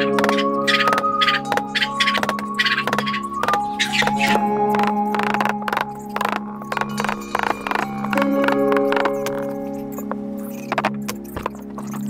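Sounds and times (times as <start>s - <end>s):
music with held tones: 0.0s - 12.0s.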